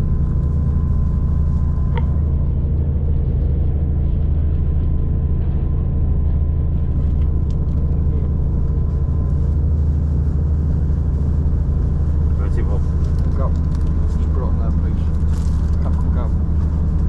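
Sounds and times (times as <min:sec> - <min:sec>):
faint steady whine: 0:00.0 - 0:17.0
train running rumble: 0:00.0 - 0:17.0.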